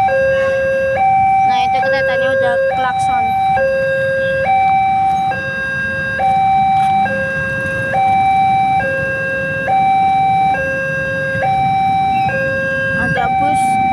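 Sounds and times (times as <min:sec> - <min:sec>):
two-tone warning siren: 0:00.0 - 0:13.9.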